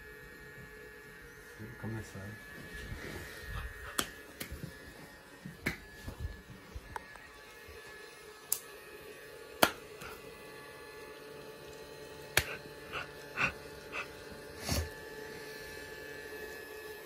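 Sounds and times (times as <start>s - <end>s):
small fan motor humming: 0.0s - 17.0s.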